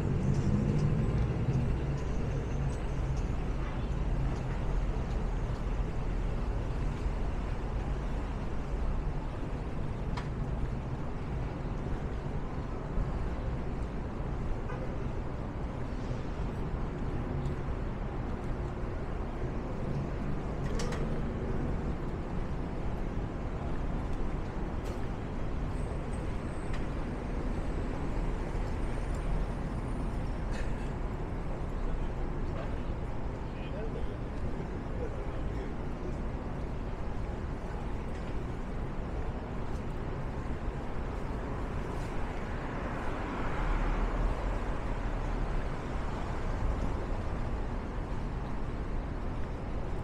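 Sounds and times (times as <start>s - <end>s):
rumble of passing vehicles: 0.0s - 50.0s.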